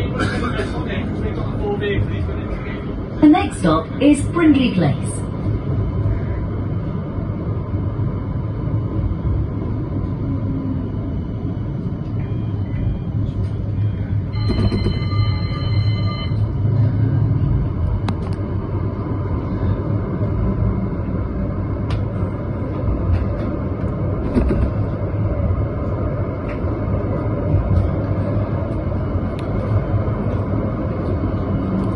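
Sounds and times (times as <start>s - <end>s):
tram rumbling: 0.0s - 31.9s.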